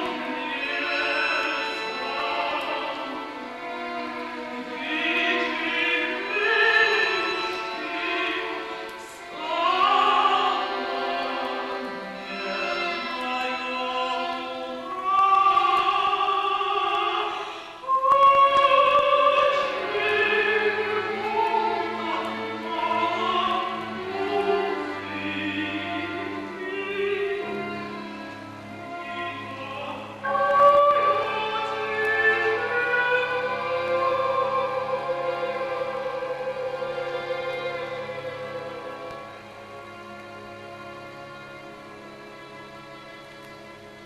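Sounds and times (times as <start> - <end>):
woman singing operatically: 0.0 - 3.4, 4.7 - 11.6, 12.3 - 28.0, 28.8 - 39.2
chamber orchestra: 0.0 - 44.0
low sustained string notes: 0.0 - 44.0.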